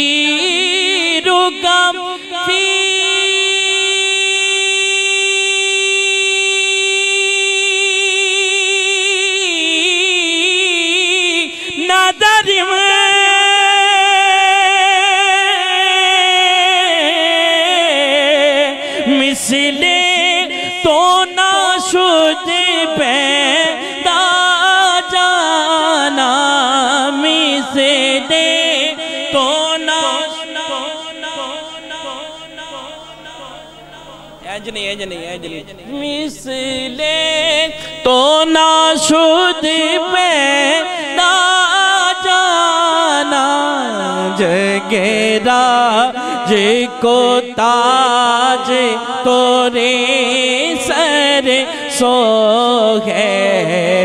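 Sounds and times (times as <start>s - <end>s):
man singing through a microphone: 0.0s - 54.0s.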